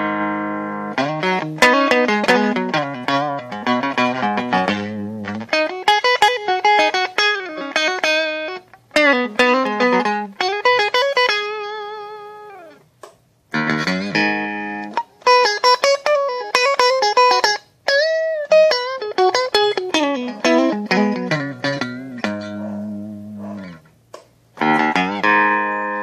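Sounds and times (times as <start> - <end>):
electric guitar lead playing: 0.0 - 12.8, 13.5 - 23.9, 24.6 - 26.0.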